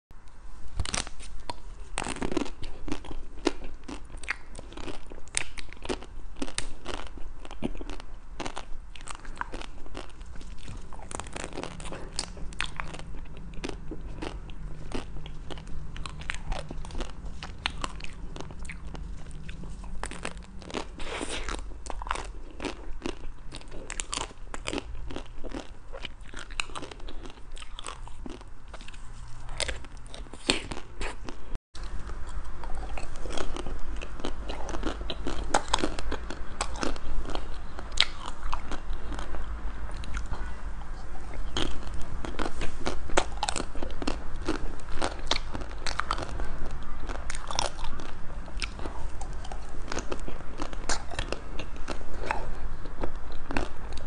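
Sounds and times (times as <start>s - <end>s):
soft chewing: 0.3s - 54.0s.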